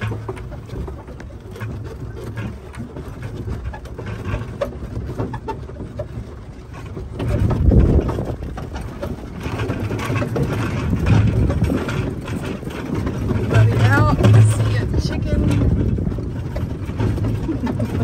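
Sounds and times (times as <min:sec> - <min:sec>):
utility cart motor rumbling: 0:00.0 - 0:18.0.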